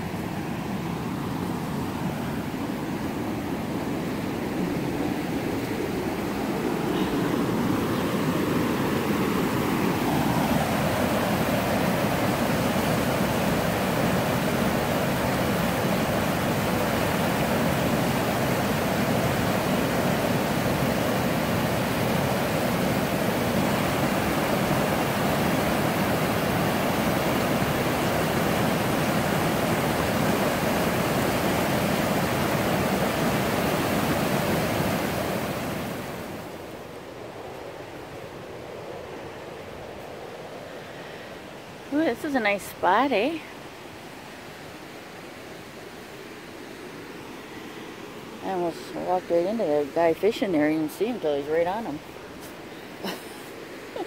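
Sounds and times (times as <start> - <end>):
rapids rushing over rocks: 0.0 - 54.0.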